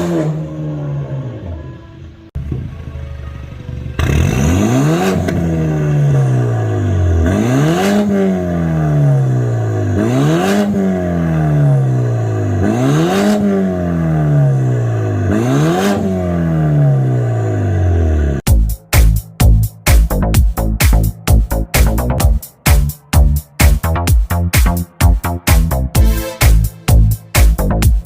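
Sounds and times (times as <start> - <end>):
car engine revving: 2.4 - 28.0.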